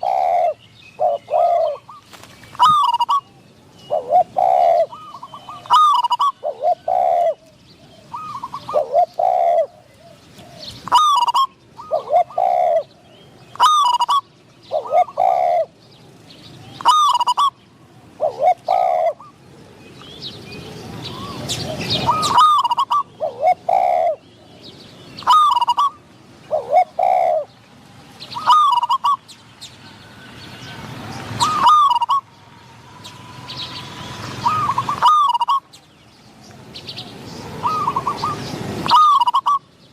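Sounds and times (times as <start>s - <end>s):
doves cooing: 0.0s - 19.8s, 20.9s - 29.3s, 30.8s - 32.4s, 33.0s - 35.8s, 36.9s - 39.7s.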